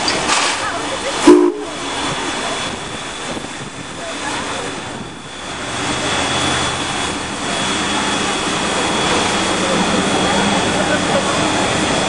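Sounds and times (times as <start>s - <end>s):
steam train rumbling and hissing: 0.0s - 12.0s.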